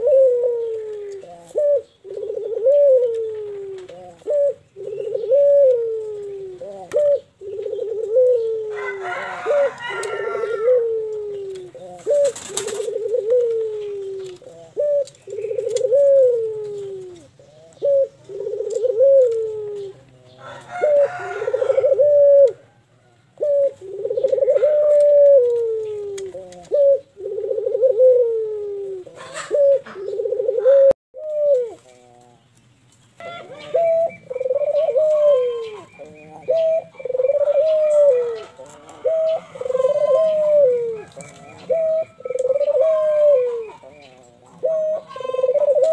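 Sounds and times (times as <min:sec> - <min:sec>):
dove cooing: 0:00.0 - 0:32.5, 0:33.2 - 0:45.9.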